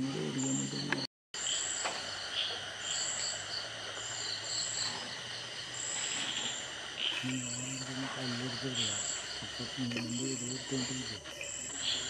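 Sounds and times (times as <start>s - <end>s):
insects trilling: 0.0s - 12.0s
pulsing cricket chirps: 0.0s - 12.0s.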